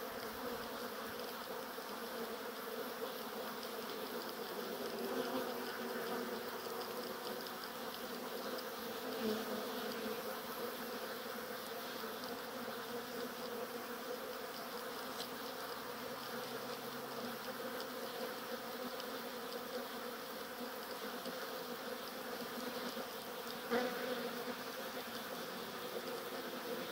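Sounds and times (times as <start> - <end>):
honeybees buzzing: 0.0 - 26.9.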